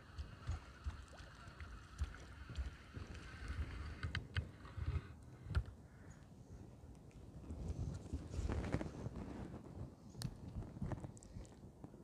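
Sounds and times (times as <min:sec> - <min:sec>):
wind buffeting microphone: 0:00.0 - 0:05.8, 0:07.3 - 0:12.0.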